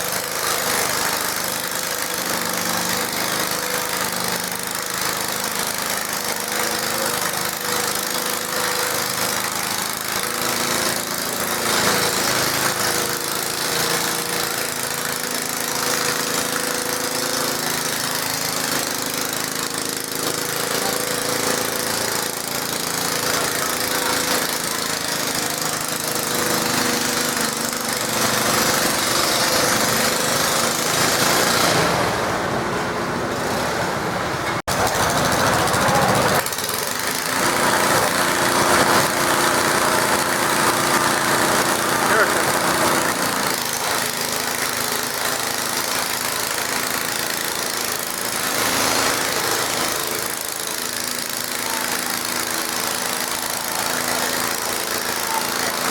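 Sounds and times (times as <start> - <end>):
garden tractor engine running rough: 0.0 - 55.9.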